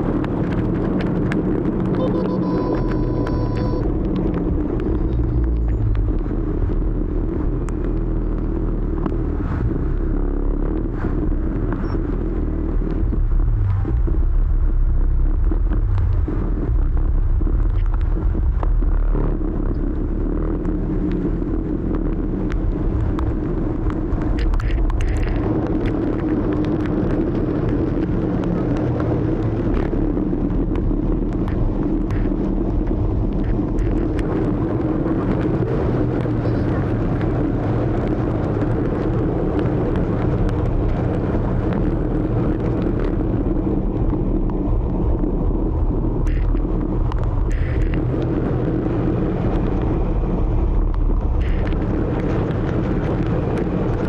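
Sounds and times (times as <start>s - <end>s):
scooter engine and road rumble: 0.0s - 54.0s.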